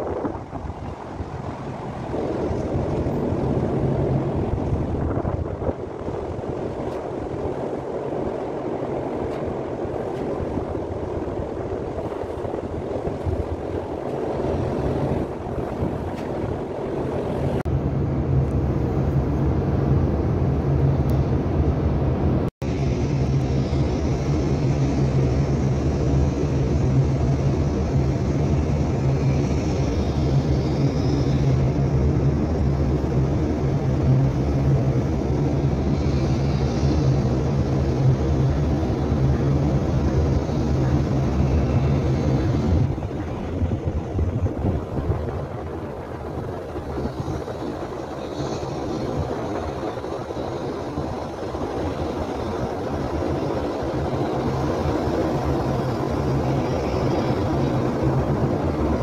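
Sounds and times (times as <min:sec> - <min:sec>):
large engine droning: 0:00.0 - 0:59.0
noisy rush: 0:00.0 - 0:59.0.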